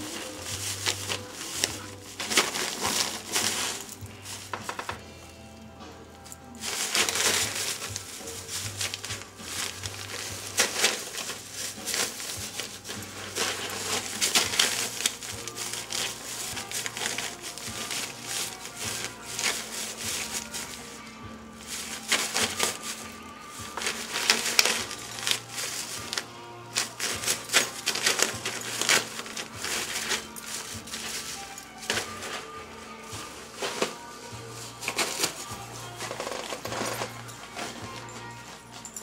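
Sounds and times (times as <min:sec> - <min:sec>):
plastic bag crinkling: 0:00.0 - 0:05.2, 0:06.5 - 0:39.0.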